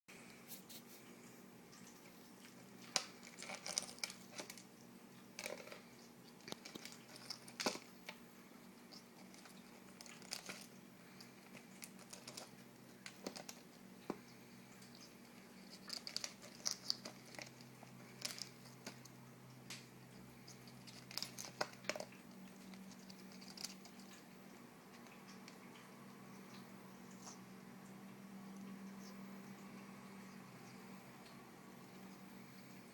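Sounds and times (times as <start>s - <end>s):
faint steady hum: 0.1s - 32.9s.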